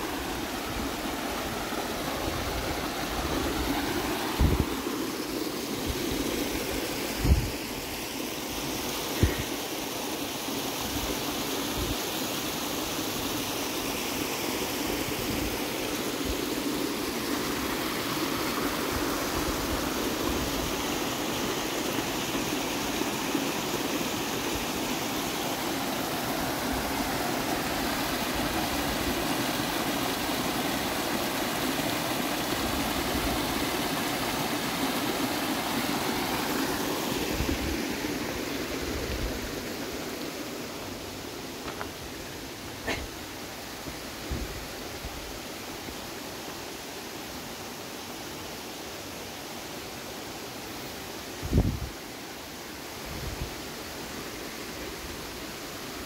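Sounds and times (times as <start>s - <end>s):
creek rushing over rocks: 0.0s - 56.0s.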